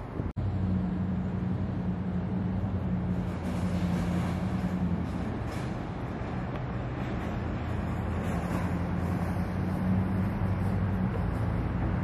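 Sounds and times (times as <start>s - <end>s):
traffic noise: 0.0s - 12.0s
vehicle engine running: 0.0s - 12.0s.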